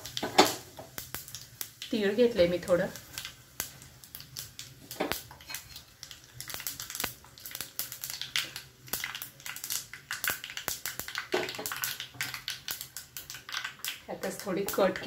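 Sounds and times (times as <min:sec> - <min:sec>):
seeds popping in hot oil: 0:00.0 - 0:15.0.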